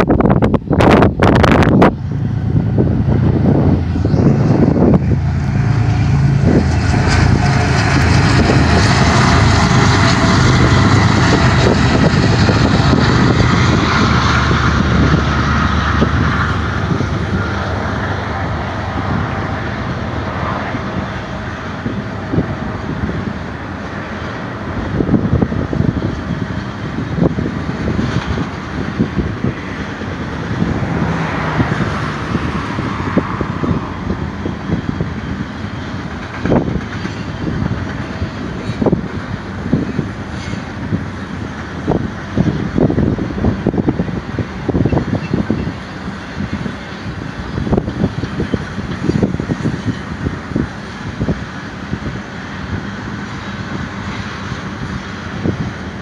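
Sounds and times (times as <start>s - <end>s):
diesel locomotive engines droning: 0.0s - 56.0s
train wheels clattering on rails: 2.9s - 56.0s.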